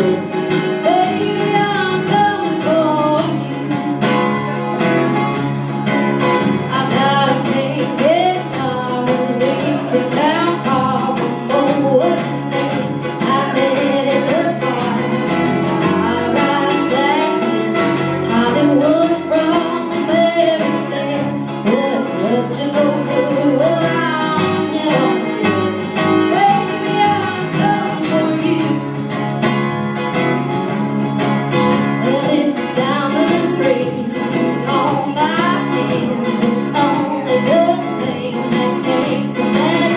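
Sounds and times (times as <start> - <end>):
acoustic guitar: 0.0 - 39.9
woman singing country song: 0.0 - 39.9.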